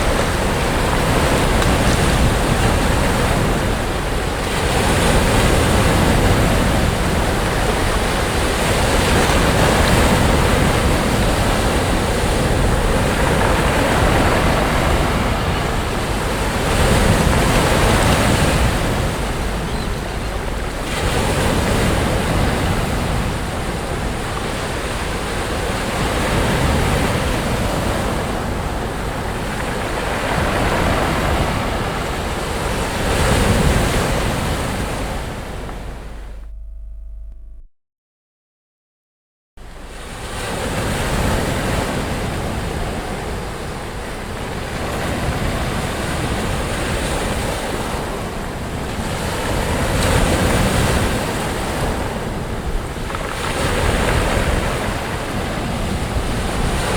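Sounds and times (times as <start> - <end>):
sea waves breaking on beach: 0.0 - 36.3, 39.7 - 56.9
wind rumble on microphone: 0.0 - 37.4, 39.6 - 56.9.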